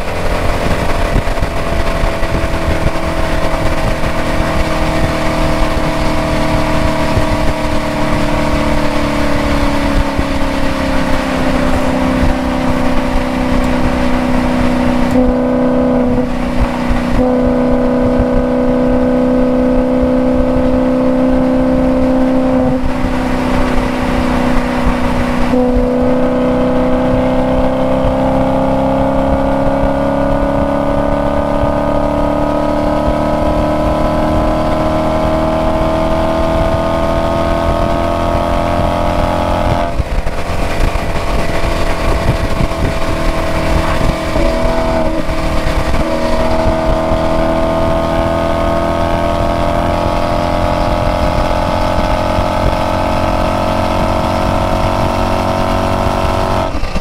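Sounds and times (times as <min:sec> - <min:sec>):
car engine and exhaust at speed: 0:00.0 - 0:57.0.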